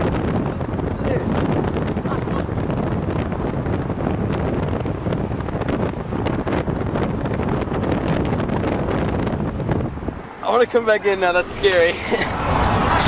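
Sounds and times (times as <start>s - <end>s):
traffic and road noise: 0.0s - 13.0s
wind buffeting microphone: 0.0s - 13.0s.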